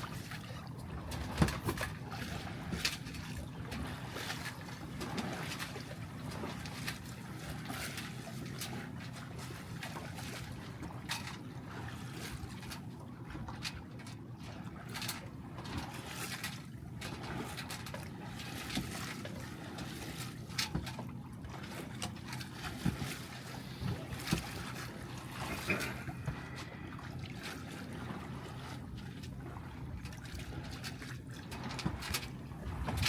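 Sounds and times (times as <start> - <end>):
water splashing against hull: 0.0 - 33.0.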